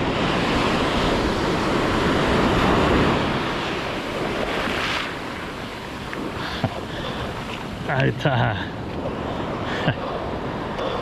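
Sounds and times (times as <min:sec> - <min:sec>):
sea surf breaking: 0:00.0 - 0:11.0.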